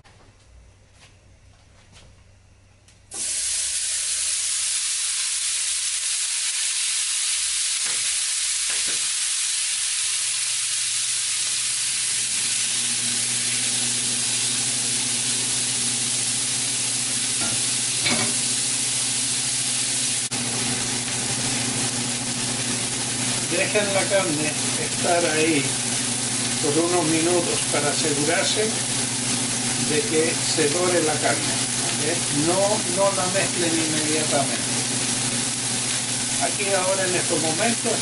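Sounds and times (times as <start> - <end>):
ground beef sizzling in skillet: 3.2 - 38.0.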